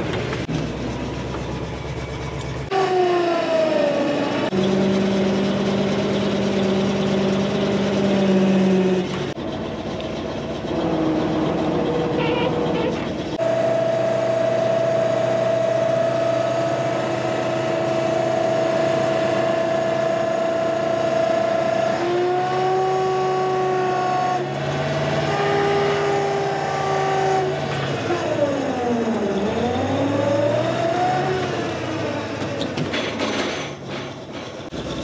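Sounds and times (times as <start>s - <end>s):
heavy engine running: 0.0s - 35.0s.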